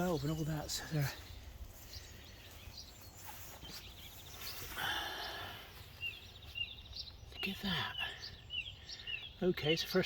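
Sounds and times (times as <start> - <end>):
bird chirps: 0.0 - 10.0.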